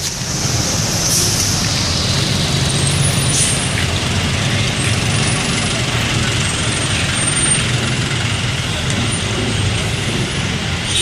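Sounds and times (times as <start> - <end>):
heavy road traffic: 0.0 - 11.0
large vehicle engine rumbling: 0.0 - 11.0.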